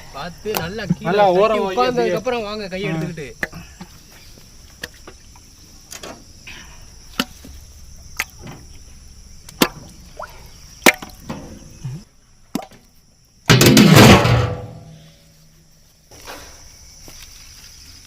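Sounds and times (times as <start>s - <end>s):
crickets droning: 0.0s - 18.0s.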